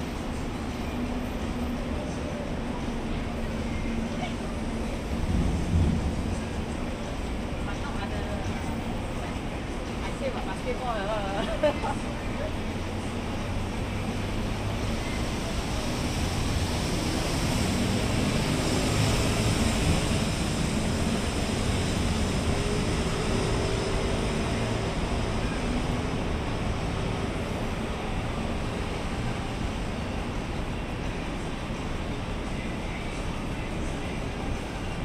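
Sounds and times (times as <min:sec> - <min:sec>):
highway traffic passing: 0:00.0 - 0:35.0.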